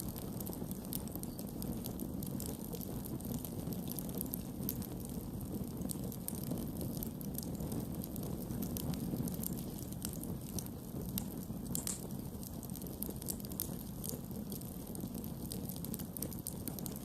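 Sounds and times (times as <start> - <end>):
burning wood crackling and popping: 0.0 - 17.0
campfire flames rushing: 0.0 - 17.0.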